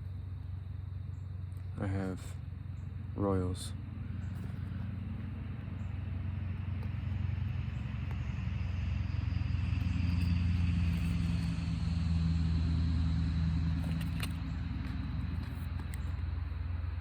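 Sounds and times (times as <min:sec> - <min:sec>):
faint high whine: 0:00.0 - 0:17.0
vehicle engine rumbling: 0:00.0 - 0:17.0.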